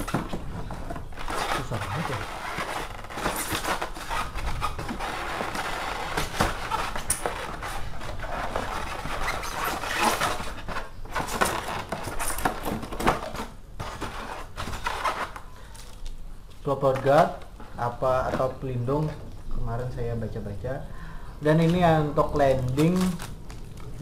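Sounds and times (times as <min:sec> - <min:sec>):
plastic packaging rustling: 0:00.0 - 0:19.2, 0:21.4 - 0:24.0.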